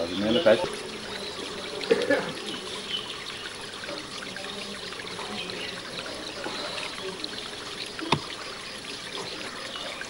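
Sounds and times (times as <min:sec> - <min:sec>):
water trickling: 0:00.0 - 0:10.0.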